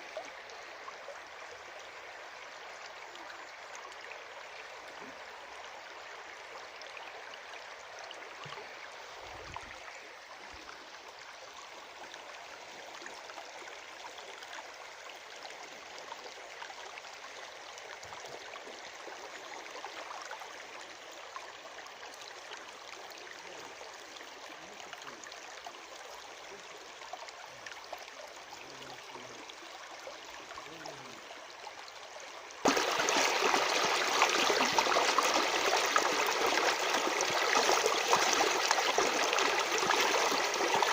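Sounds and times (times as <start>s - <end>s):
stream water running and trickling: 0.0s - 40.9s.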